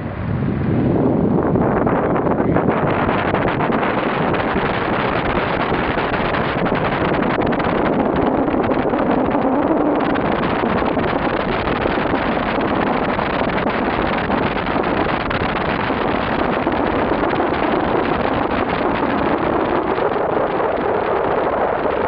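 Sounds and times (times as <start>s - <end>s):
car road noise: 0.0s - 22.0s
wind noise on microphone: 0.0s - 22.0s.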